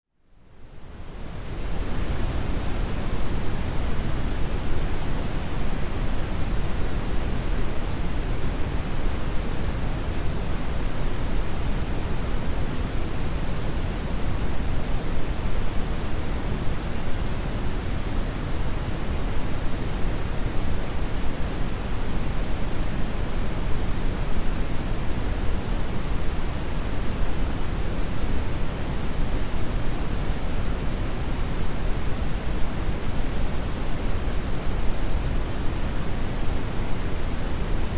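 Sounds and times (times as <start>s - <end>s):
brown noise rumbling hiss: 0.4s - 37.9s.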